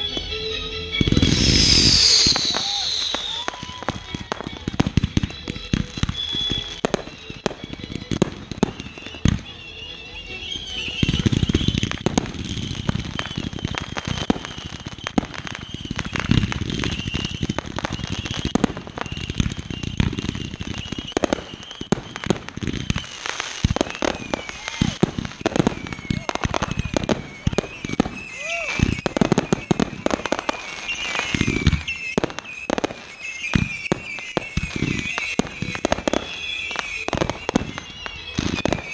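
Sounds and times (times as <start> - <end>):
fireworks bangs and crackles: 0.0 - 38.9
high wavering whistle: 0.0 - 38.9.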